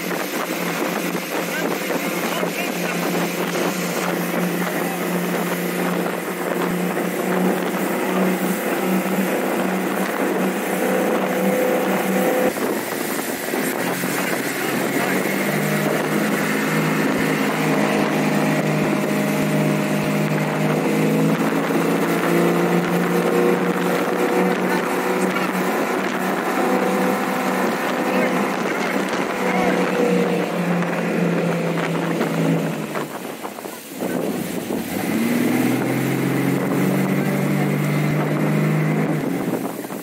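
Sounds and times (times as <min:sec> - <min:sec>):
boat engine running: 0:00.0 - 0:40.0
wind and water noise: 0:00.0 - 0:40.0.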